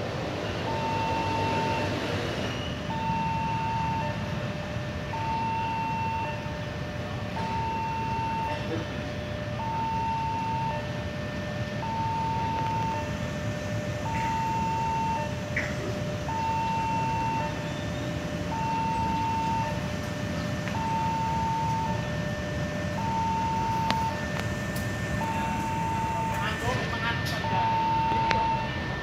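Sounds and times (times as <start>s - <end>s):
diesel locomotive rumble: 0.0s - 29.0s
level-crossing two-note alarm: 0.3s - 29.0s.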